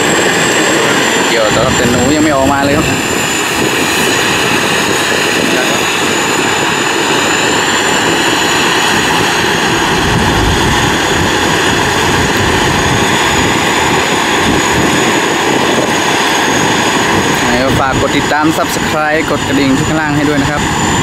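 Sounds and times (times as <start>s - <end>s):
combine harvester engine drone: 0.0s - 21.0s.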